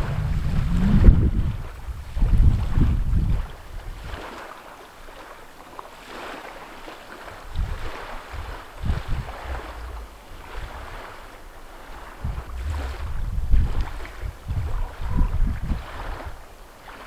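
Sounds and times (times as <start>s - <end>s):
wind buffeting microphone: 0.0s - 4.6s, 7.2s - 17.0s
small waves lapping on rocks: 0.0s - 17.0s.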